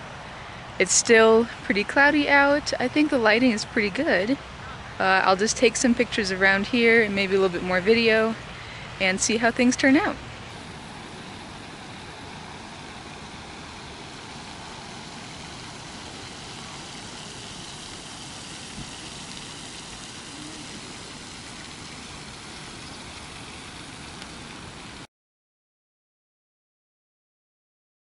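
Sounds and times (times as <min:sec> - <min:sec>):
distant road traffic hum: 0:00.0 - 0:25.1.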